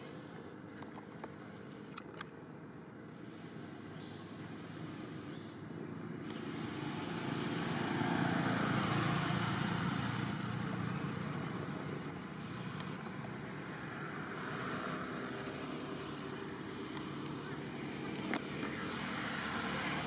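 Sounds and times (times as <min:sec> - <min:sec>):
vehicle engine passing: 0:03.2 - 0:20.0.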